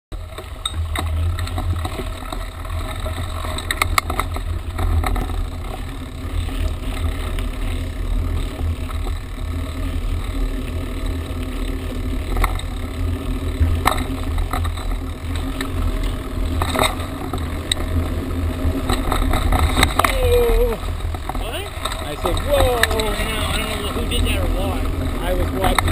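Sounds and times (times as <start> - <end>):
tyres on dirt trail: 0.1 - 25.9
bike knocks and rattles: 0.2 - 25.9.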